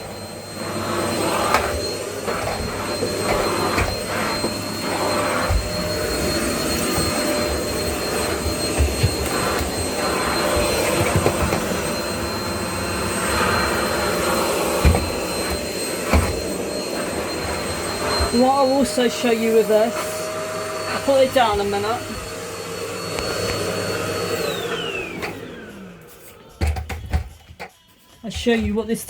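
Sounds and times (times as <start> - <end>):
vacuum cleaner running: 0.0 - 27.3.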